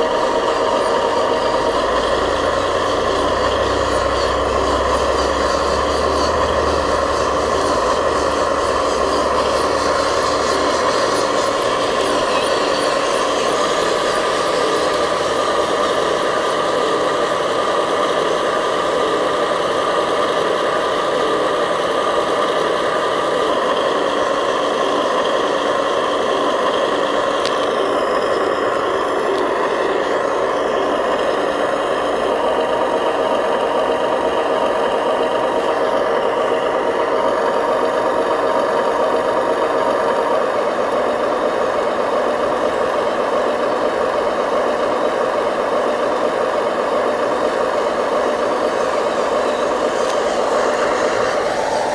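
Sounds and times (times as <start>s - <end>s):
toy truck engine drone: 0.0s - 51.9s.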